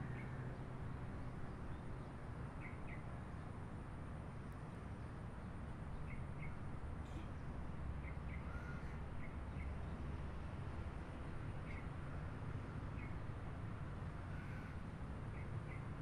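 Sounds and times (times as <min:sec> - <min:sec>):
distant highway traffic rumble: 0:00.0 - 0:16.0.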